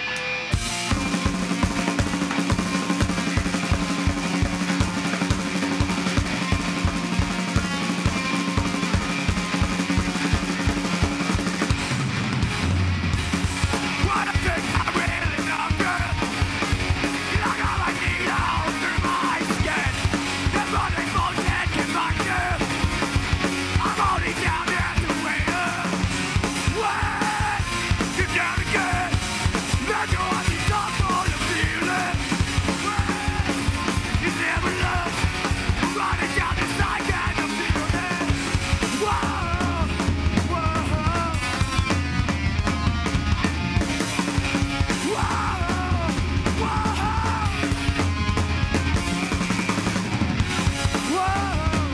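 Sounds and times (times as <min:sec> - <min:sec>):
bass guitar: 0:00.0 - 0:51.9
distorted electric guitars: 0:00.0 - 0:51.9
drums: 0:00.0 - 0:51.9.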